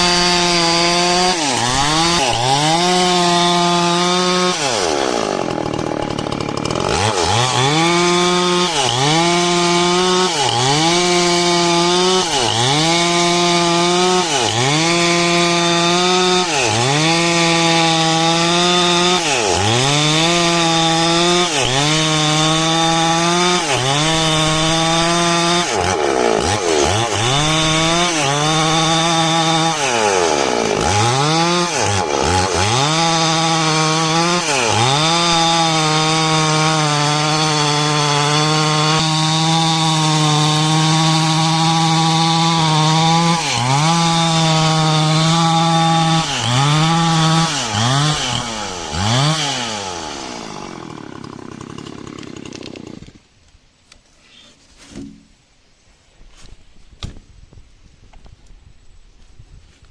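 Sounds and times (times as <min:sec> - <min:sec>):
chainsaw cutting log: 0:00.0 - 0:53.4, 0:54.3 - 0:55.4.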